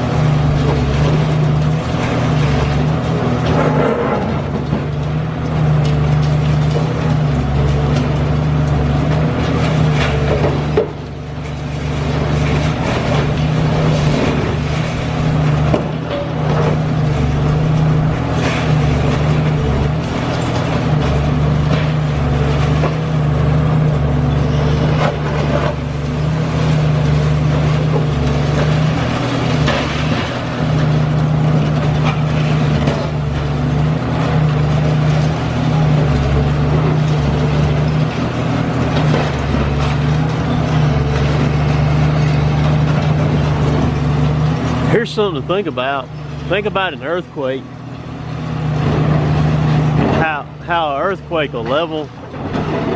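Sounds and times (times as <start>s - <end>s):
demolition knocks and clatter: 0.0s - 52.9s
excavator engine droning: 0.0s - 52.9s.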